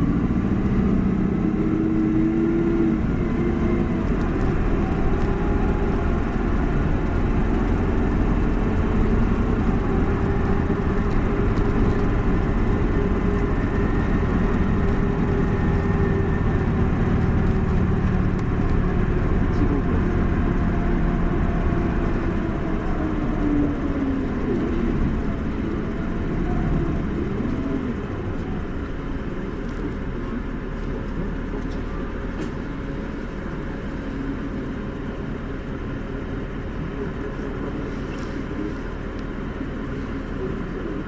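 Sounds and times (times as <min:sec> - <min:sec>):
bus diesel engine drone: 0:00.0 - 0:41.0
road noise: 0:00.0 - 0:41.0.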